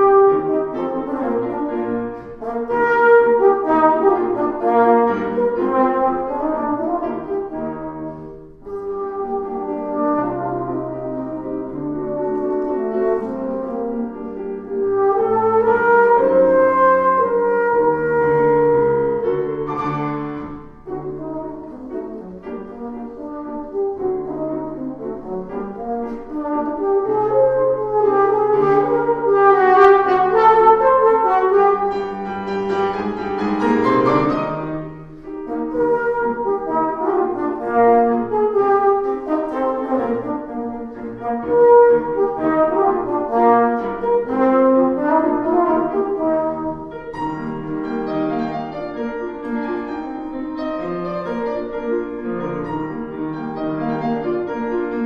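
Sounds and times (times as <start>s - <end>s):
brass band accompaniment: 0.0s - 55.0s
tenor horn melody: 0.0s - 55.0s.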